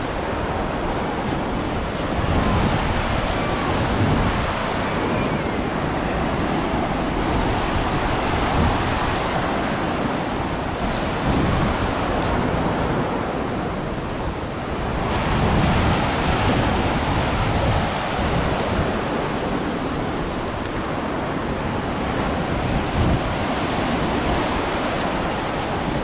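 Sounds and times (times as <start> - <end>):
surf washing onto beach: 0.0 - 26.0
wind rumbling on microphone: 0.0 - 26.0.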